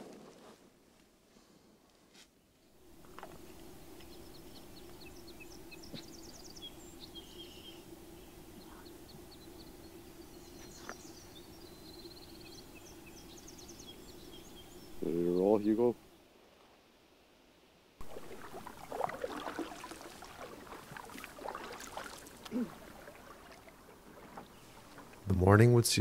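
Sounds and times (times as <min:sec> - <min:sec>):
steady low hum: 0:02.8 - 0:16.1, 0:18.0 - 0:26.0
songbirds chirping and trilling: 0:02.9 - 0:16.2, 0:18.0 - 0:26.0.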